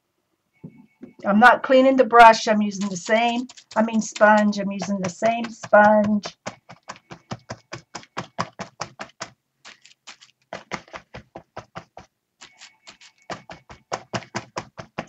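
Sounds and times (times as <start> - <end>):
sponge tapping on paper: 2.7 - 15.0.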